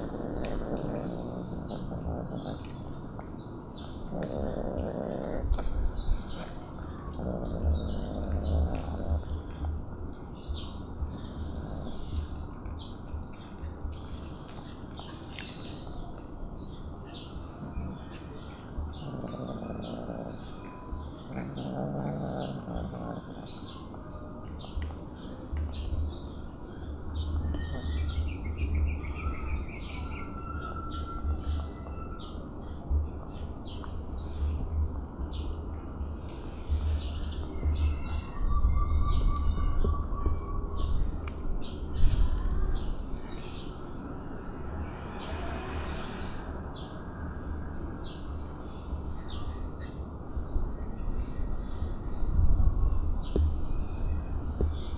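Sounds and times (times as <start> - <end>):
steady low rumble: 0.0 - 54.9.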